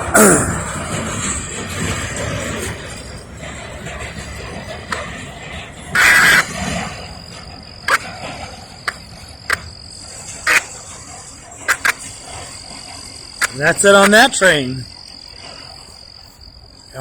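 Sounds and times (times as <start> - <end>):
high insect trill: 0.0 - 17.0
frogs calling: 3.0 - 17.0.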